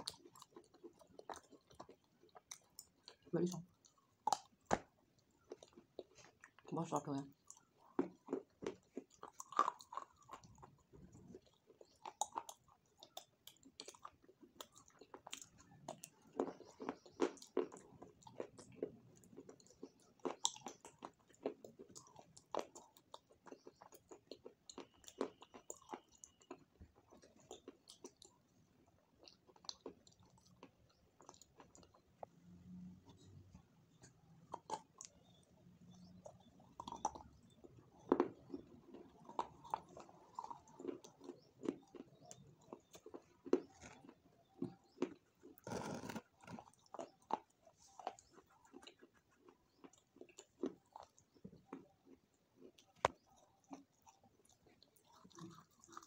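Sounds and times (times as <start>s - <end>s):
close-miked chewing: 0.0s - 56.0s.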